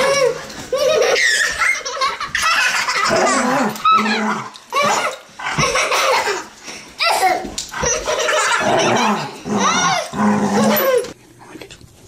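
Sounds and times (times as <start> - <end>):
children shrieking and laughing: 0.0 - 11.2.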